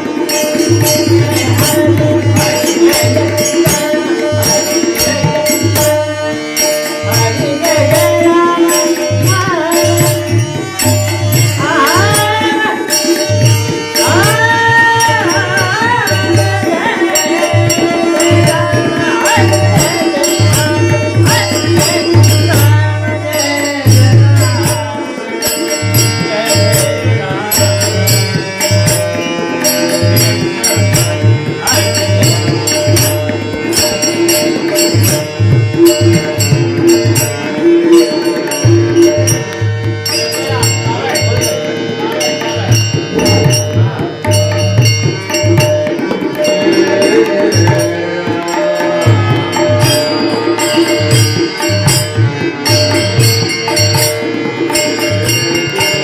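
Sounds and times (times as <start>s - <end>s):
man singing: 0.0s - 33.5s, 40.4s - 52.8s
tabla playing: 0.0s - 56.0s.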